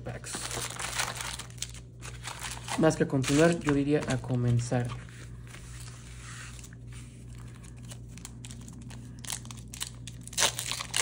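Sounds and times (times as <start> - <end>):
foil wrapper crinkling: 0.0 - 4.9, 6.5 - 11.0
steady low hum: 0.0 - 11.0.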